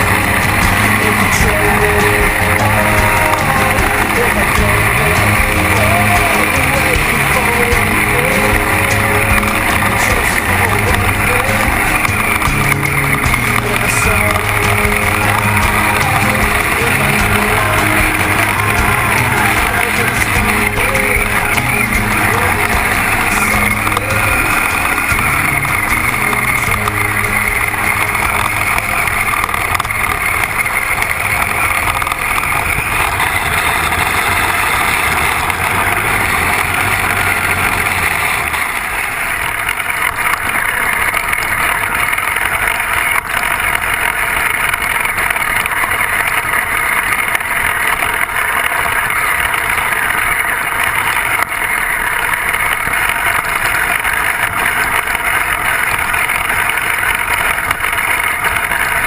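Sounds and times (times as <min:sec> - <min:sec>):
toy tracked vehicle motor rushing: 0:00.0 - 0:59.0.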